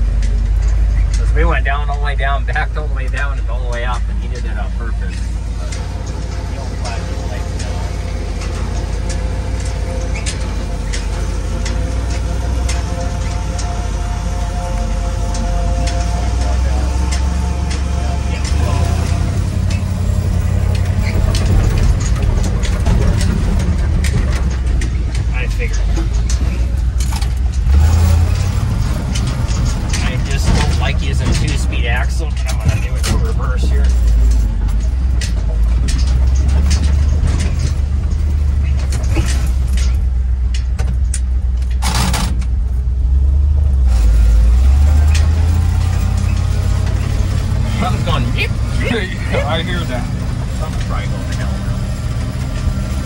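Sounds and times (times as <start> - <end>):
sharp clicks and knocks: 0.0 - 53.0
truck engine drone: 0.0 - 53.0.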